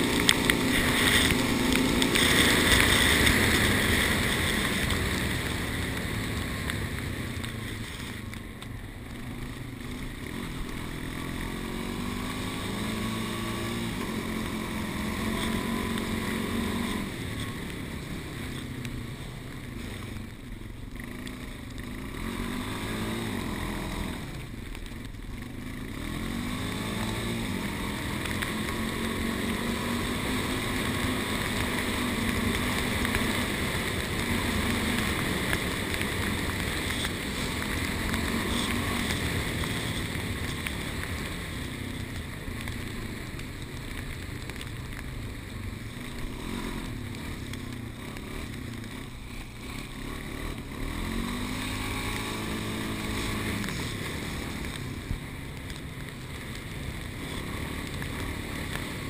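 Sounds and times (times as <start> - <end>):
bike tyre and wind noise: 0.0 - 59.0.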